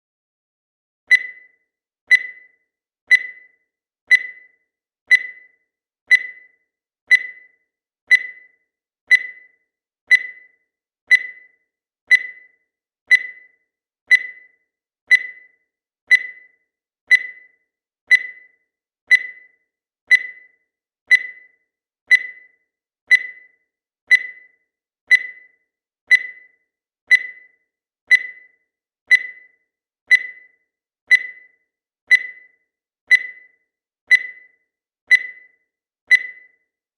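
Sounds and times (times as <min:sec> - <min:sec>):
digital timer beeping: 0:01.1 - 0:36.8.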